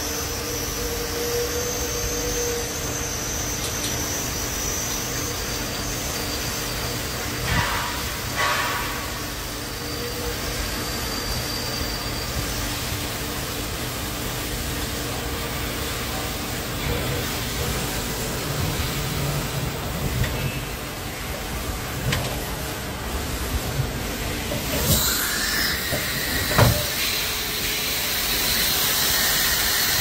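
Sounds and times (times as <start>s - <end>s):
machining center humming: 0.0s - 29.0s.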